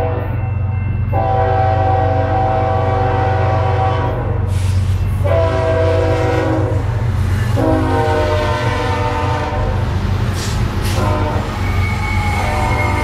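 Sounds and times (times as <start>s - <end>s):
locomotive air horn: 0.0s - 0.4s, 1.1s - 9.8s, 10.4s - 13.0s
locomotive rumble: 0.0s - 13.0s.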